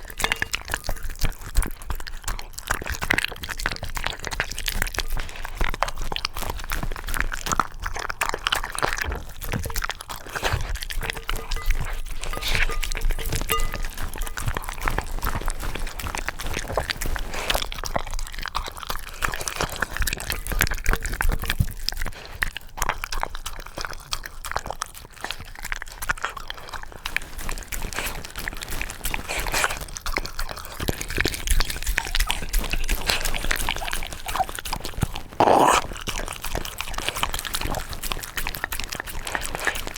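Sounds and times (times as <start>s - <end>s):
dog crunching and chewing: 0.0s - 39.9s.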